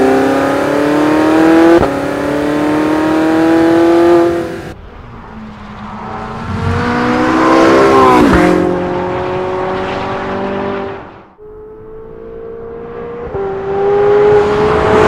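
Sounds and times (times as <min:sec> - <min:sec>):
car engine passing at high speed: 0:00.0 - 0:15.0.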